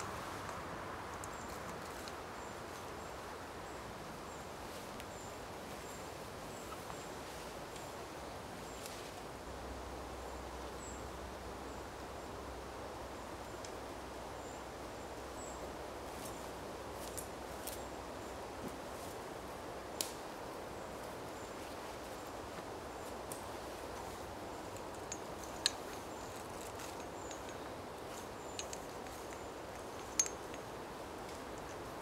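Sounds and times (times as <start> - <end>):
outdoor air hiss: 0.0 - 32.0.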